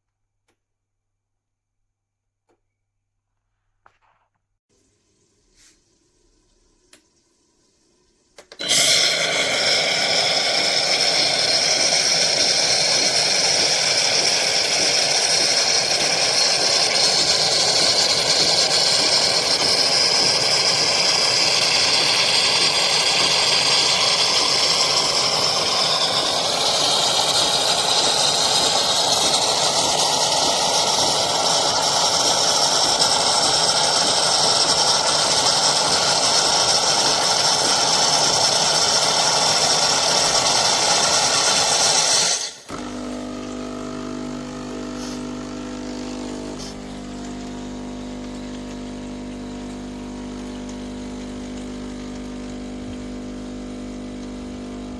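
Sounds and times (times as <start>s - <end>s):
espresso machine rushing and whining: 8.4s - 54.9s.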